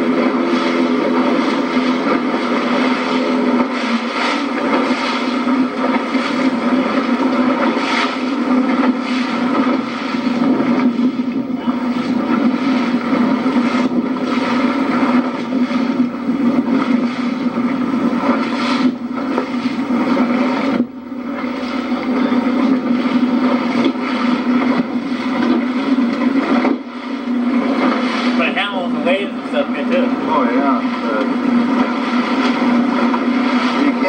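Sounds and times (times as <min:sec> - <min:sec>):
motorboat engine running: 0:00.0 - 0:34.0
wind and water rushing: 0:00.0 - 0:34.0.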